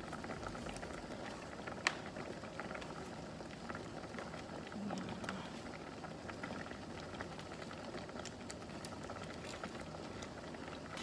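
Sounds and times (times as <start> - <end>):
soup simmering and bubbling: 0.0 - 11.0.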